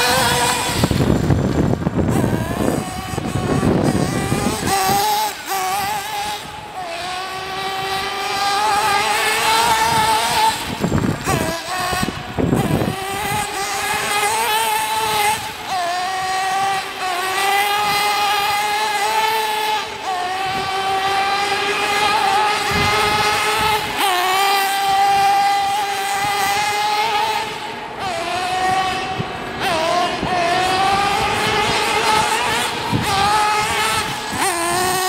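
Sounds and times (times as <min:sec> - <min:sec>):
rc buggy motor whine: 0:00.0 - 0:35.0
wind buffeting microphone: 0:00.0 - 0:35.0.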